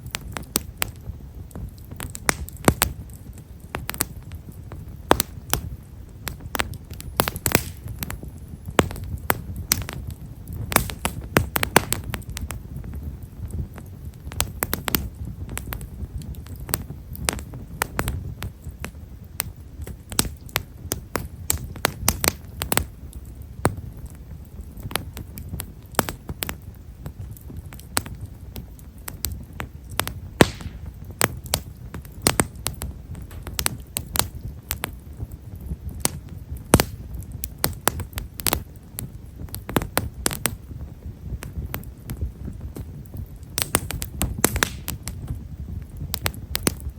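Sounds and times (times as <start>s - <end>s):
fire crackling and popping: 0.0s - 46.9s
flames rumbling: 0.0s - 46.9s.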